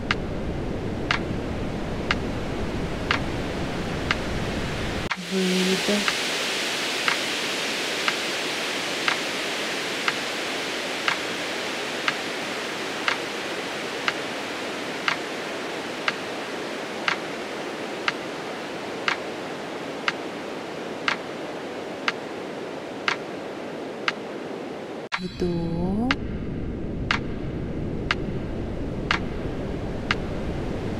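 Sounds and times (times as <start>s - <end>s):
steady rushing hiss: 0.0s - 25.2s.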